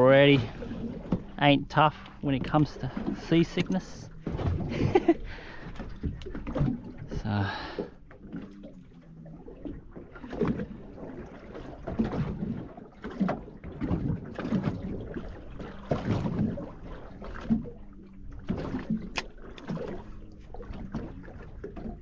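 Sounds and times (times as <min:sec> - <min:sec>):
water slapping boat hull: 0:00.0 - 0:22.0.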